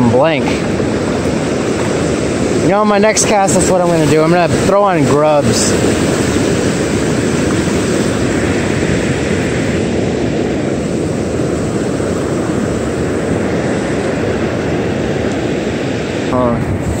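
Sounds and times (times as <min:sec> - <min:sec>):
surf breaking on beach: 0:00.0 - 0:17.0
wind noise on microphone: 0:00.0 - 0:17.0.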